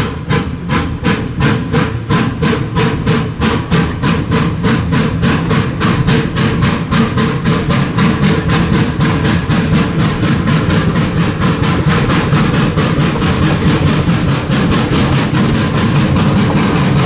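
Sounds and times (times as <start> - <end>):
low running rumble: 0.0 - 17.0
steam locomotive exhaust chuffing: 0.0 - 17.0.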